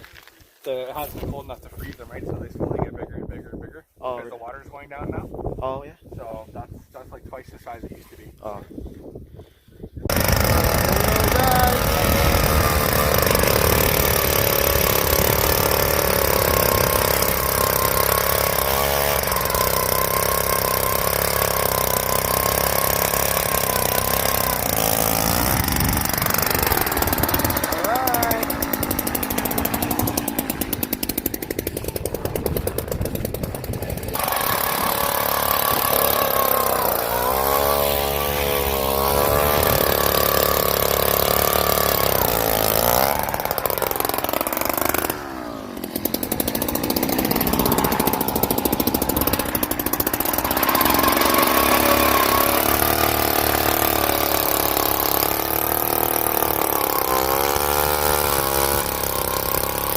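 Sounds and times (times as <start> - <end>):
ice auger engine running hard: 10.1 - 59.9.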